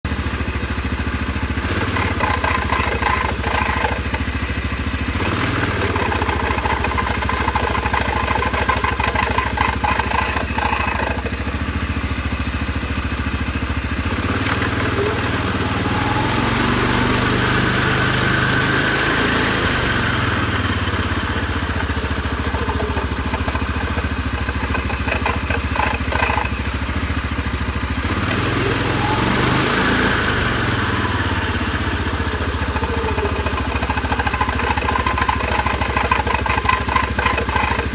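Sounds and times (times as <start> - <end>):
engine running: 0.0 - 37.9
variator chattering: 0.2 - 37.9.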